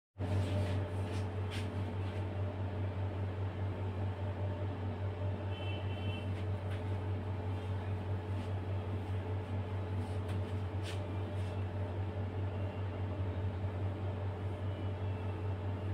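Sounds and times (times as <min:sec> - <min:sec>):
low machine hum: 0:00.2 - 0:15.9.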